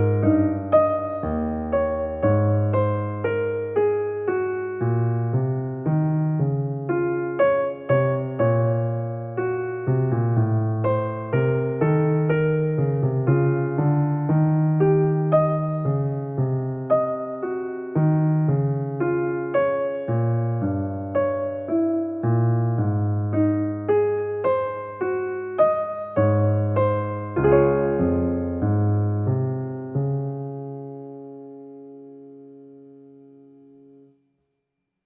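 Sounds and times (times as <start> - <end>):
gentle piano music: 0.0 - 34.2.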